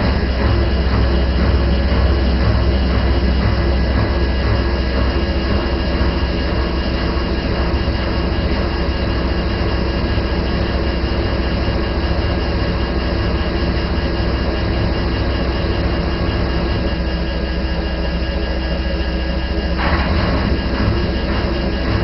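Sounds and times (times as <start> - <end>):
washing machine running: 0.0 - 22.0.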